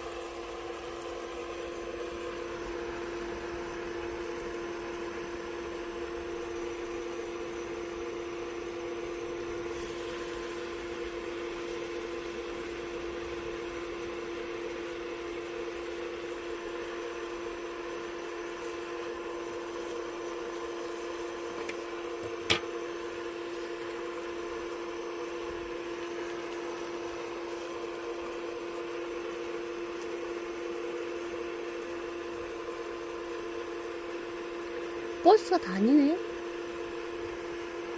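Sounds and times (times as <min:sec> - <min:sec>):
steady mechanical hum: 0:00.0 - 0:37.9.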